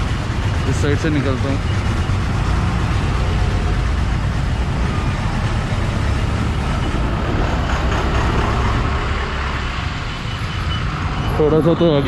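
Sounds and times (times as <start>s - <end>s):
truck close by: 0.0s - 12.0s
vehicle engines: 0.0s - 12.0s.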